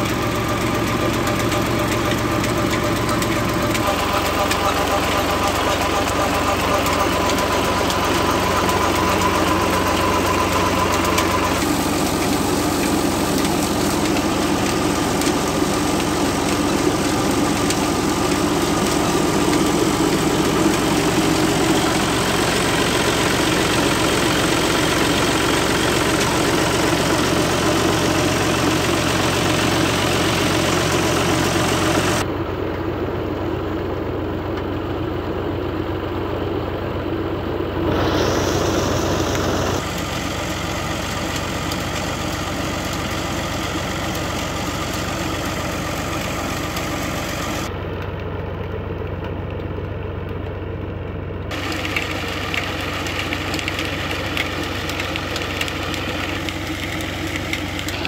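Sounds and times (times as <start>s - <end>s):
tractor diesel engine drone: 0.0s - 58.0s.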